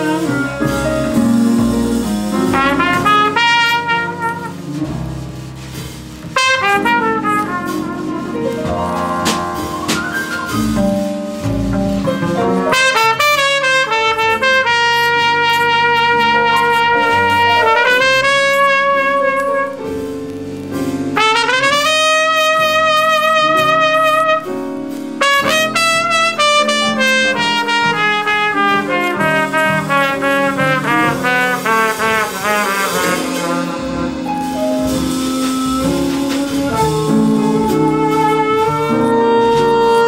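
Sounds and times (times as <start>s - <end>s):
jazz trumpet solo: 0.0s - 40.0s
lower accompanying notes: 0.0s - 40.0s.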